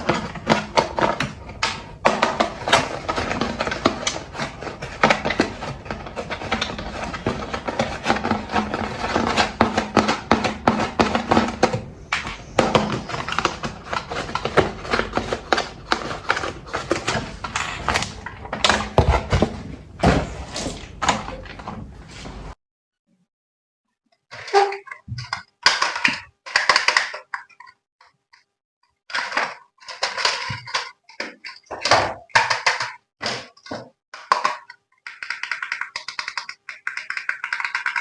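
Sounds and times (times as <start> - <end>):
objects tapping and clicking: 0.0 - 21.8, 24.2 - 38.0.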